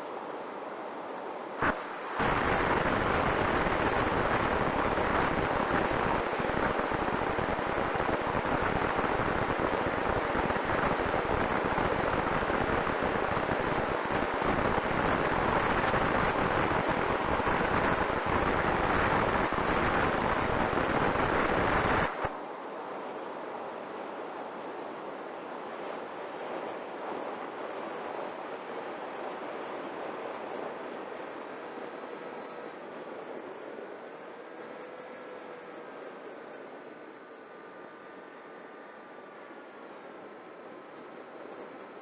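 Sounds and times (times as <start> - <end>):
faint steady tone: 0.0 - 42.0
wind rushing on microphone: 0.1 - 42.0.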